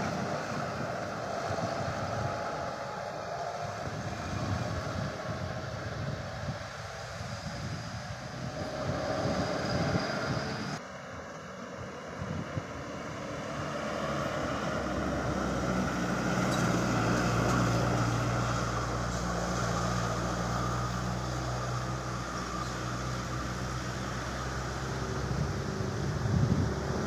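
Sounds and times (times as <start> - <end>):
large diesel engine humming: 0.0 - 27.0
road noise: 0.0 - 27.0.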